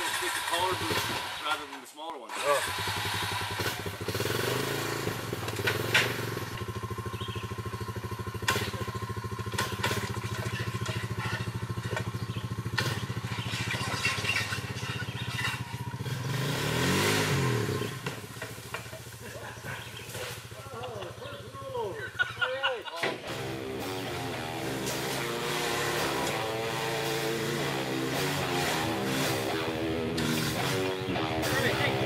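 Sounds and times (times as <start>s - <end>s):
atv engine idling and revving: 0.0s - 32.0s.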